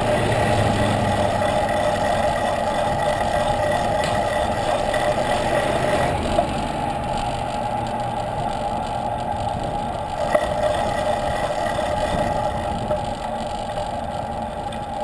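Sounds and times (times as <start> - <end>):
bicycle road noise: 0.0 - 15.0
cars passing: 0.0 - 15.0
wind noise: 0.0 - 15.0.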